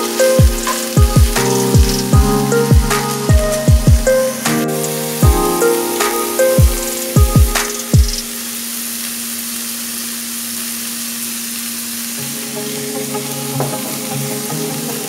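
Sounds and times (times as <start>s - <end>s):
vegetables sizzling in oil: 0.0s - 3.3s, 4.3s - 15.0s.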